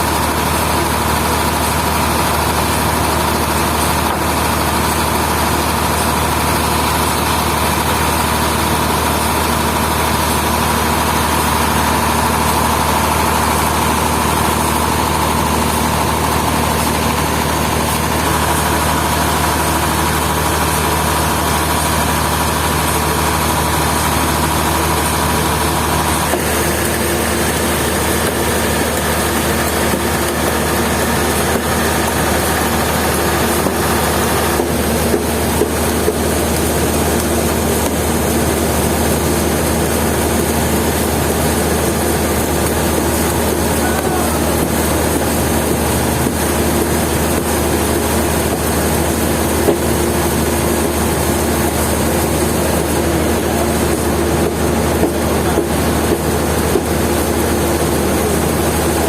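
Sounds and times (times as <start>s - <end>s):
high machine whine: 0.0s - 59.0s
machinery engine hum: 0.0s - 59.0s.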